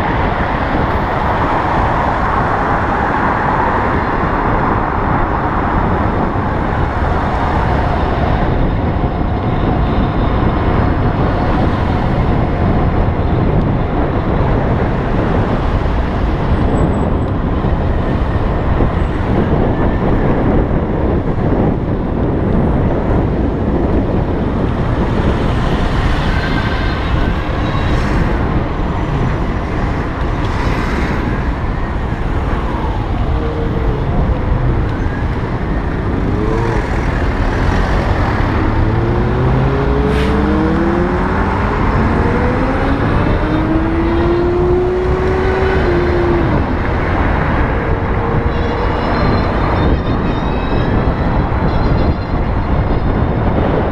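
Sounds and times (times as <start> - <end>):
road noise: 0.0 - 53.9
wind rush: 0.0 - 53.9.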